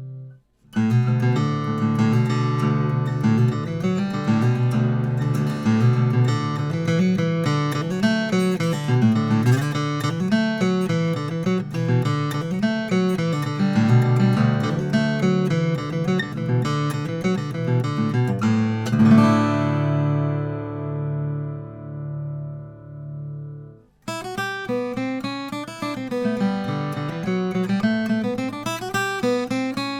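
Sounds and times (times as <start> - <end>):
acoustic guitar picked notes: 0.0 - 29.9.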